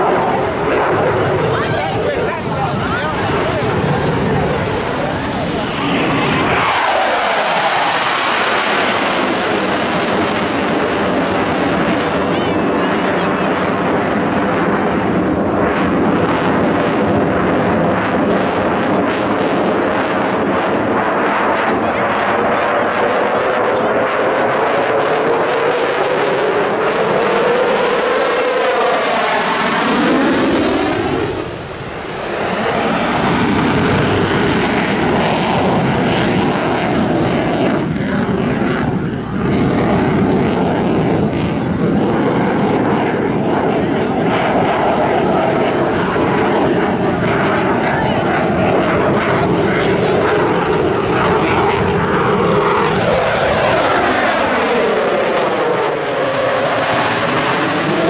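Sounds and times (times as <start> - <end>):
fighter jet engines roaring: 0.0 - 58.0.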